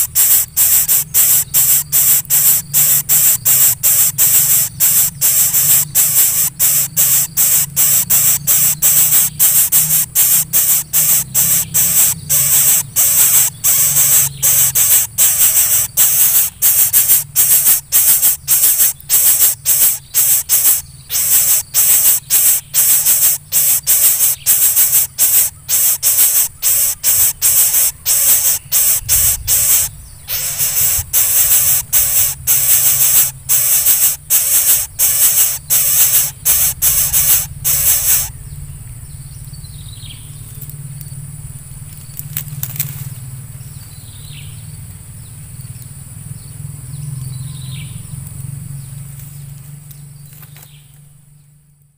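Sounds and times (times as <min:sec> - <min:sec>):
nestling hissing calls: 0:00.0 - 0:51.0
faint low hum: 0:00.0 - 0:51.9.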